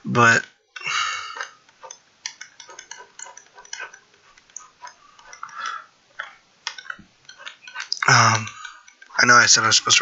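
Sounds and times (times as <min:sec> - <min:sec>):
light clicks and taps: 0:00.4 - 0:10.0.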